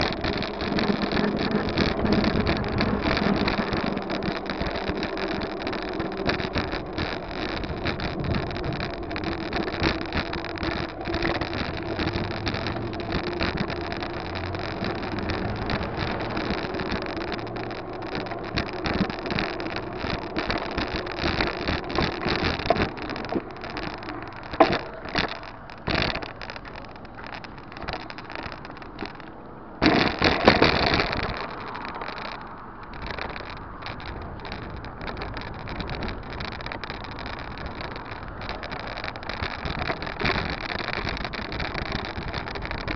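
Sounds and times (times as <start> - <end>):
bicycle knocks and rattles: 0.0 - 42.9
wind rushing over microphone: 0.0 - 42.9.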